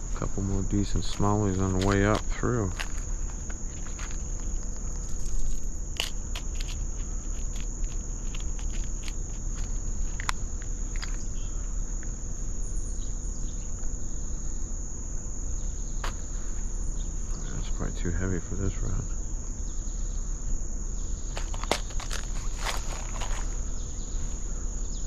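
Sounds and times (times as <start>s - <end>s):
high-pitched insect drone: 0.0s - 25.0s
low steady rumble: 0.0s - 25.0s.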